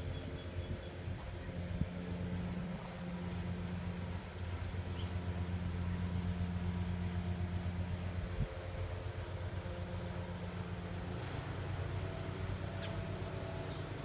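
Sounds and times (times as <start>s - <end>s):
low mechanical engine hum: 0.0s - 14.0s.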